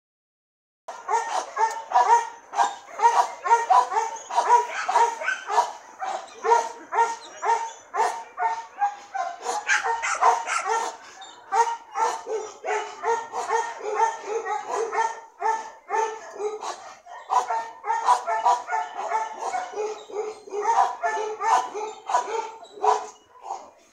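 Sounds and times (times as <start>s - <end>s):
dog barking: 0.9s - 23.8s.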